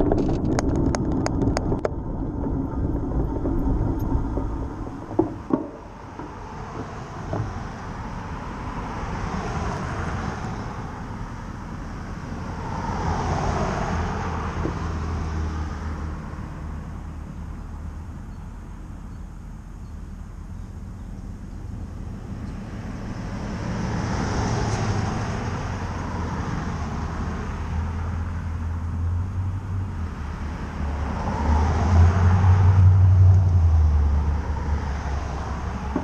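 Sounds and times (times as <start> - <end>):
cars passing: 0.0 - 18.8, 20.4 - 36.0.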